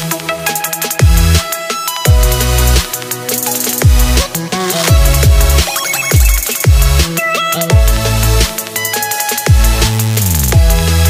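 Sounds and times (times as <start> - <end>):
electronic music with sliding bass: 0.0 - 11.0.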